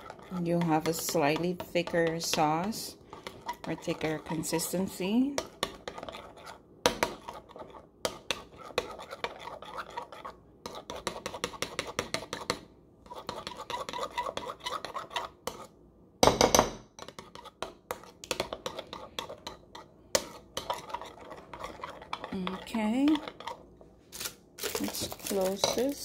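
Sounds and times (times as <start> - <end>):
spoon clinking and scraping bowl: 0.0 - 15.7, 16.5 - 23.6, 24.7 - 26.0.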